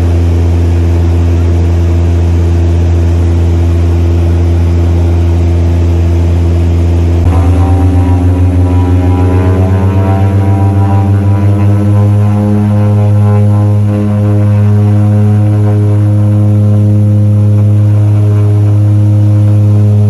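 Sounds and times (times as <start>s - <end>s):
propeller engine droning: 0.0s - 20.0s
propeller pulsing beat: 0.0s - 20.0s.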